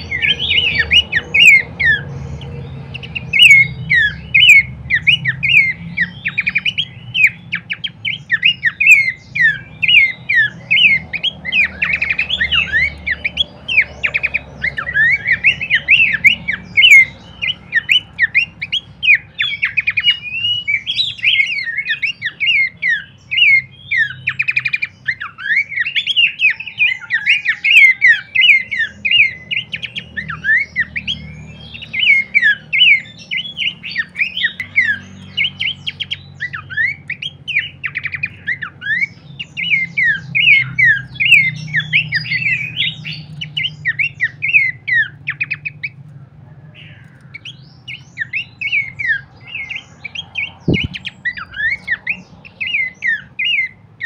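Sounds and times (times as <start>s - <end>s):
babbler bird chirping rapidly: 0.0s - 54.0s.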